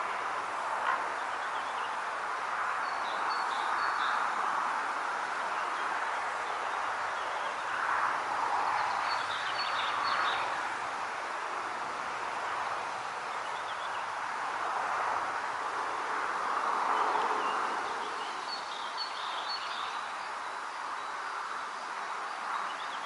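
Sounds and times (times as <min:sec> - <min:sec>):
wind in foliage: 0:00.0 - 0:23.0.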